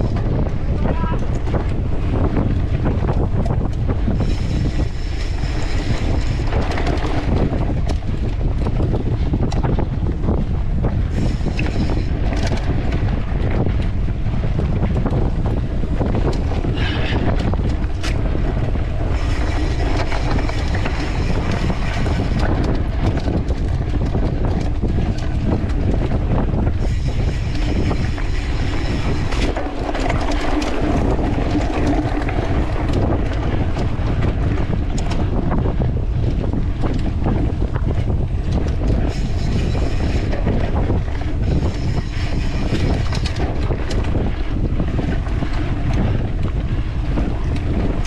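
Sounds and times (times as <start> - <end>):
bike rattling and knocking: 0.0 - 48.0
wind buffeting microphone: 0.0 - 48.0.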